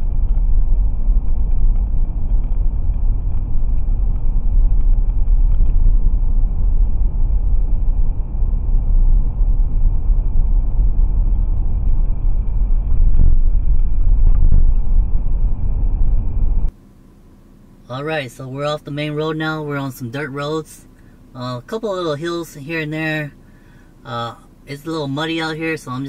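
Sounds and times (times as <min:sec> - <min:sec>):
faint high whine: 0:00.0 - 0:26.0
muffled car road rumble: 0:00.0 - 0:26.0.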